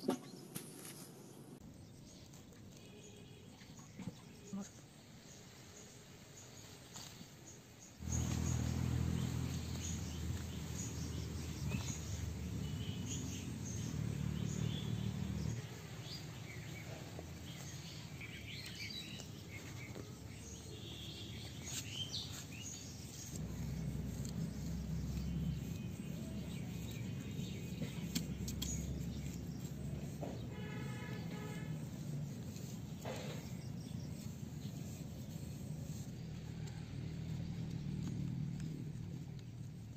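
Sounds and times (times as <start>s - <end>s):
small birds chirping: 1.6s - 39.9s.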